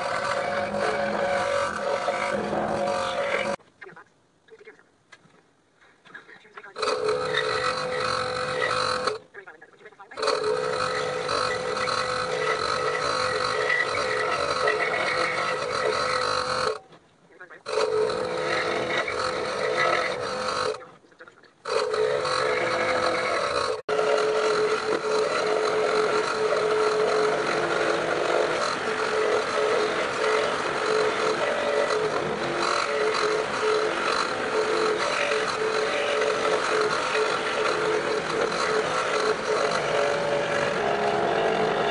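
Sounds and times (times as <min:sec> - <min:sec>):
scroll saw cutting wood: 0:00.0 - 0:03.6, 0:06.8 - 0:09.3, 0:10.2 - 0:16.8, 0:17.6 - 0:20.9, 0:21.6 - 0:41.9.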